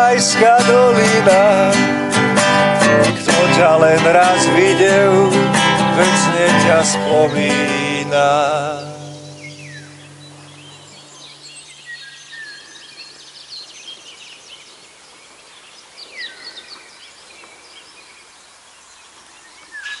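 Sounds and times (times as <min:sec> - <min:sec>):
songbirds singing and calling: 0:00.0 - 0:01.8, 0:03.0 - 0:20.0.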